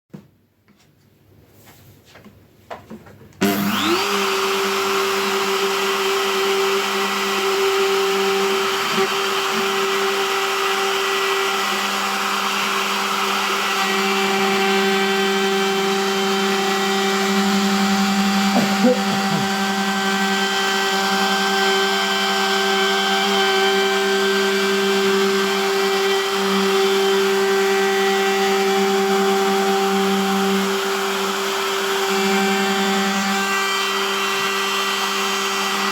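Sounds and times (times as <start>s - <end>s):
electric motor running: 3.4s - 35.9s.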